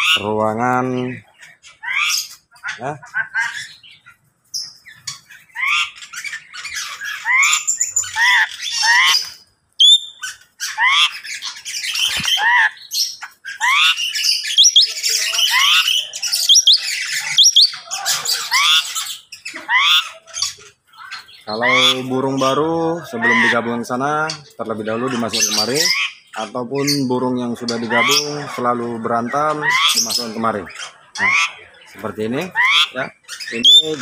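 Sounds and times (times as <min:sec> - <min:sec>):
birds squawking and chirping: 0:00.0 - 0:34.0.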